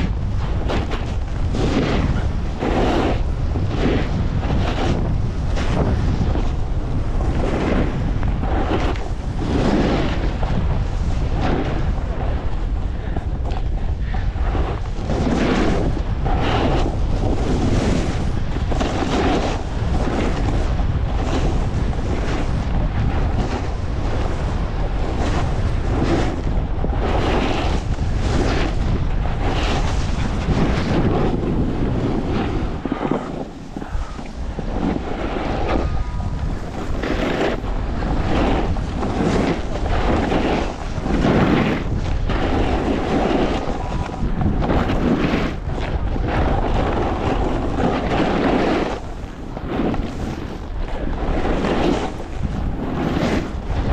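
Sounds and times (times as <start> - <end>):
snowboard edge scraping snow: 0.0 - 53.9
wind rushing over microphone: 0.0 - 53.9.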